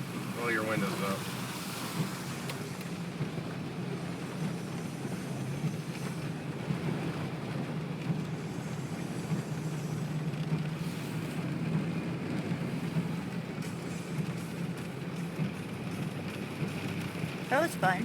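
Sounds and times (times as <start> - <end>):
engine and road hum: 0.0 - 18.0
water washing against car: 0.0 - 18.0.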